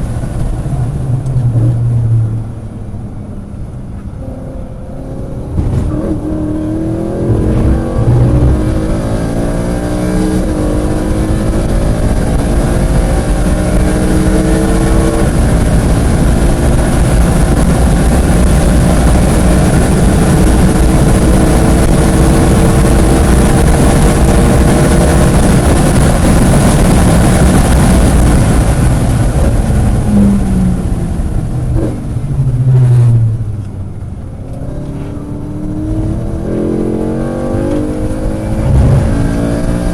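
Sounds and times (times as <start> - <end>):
wind and road noise: 0.0 - 39.9
race car engine revving: 4.2 - 31.0, 34.4 - 39.9.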